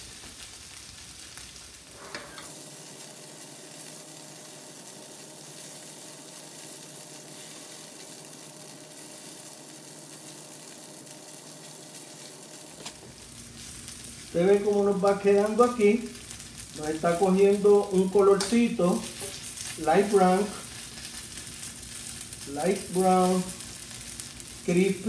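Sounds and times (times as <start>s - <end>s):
tofu sizzling in oil: 0.0s - 25.0s.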